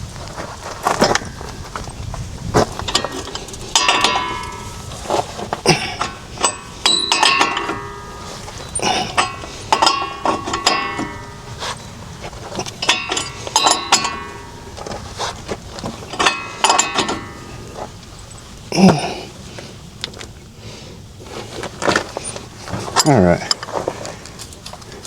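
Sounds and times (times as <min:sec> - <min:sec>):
hand tools clanking on metal: 0:00.7 - 0:25.0.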